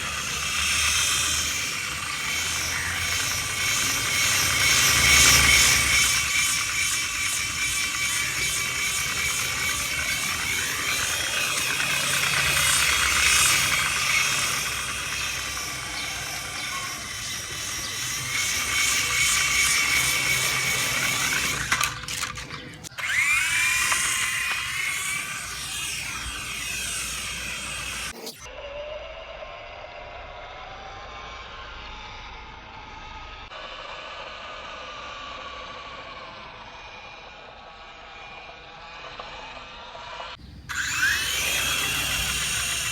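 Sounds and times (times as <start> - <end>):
rc helicopter rotor whining: 0.0 - 42.9.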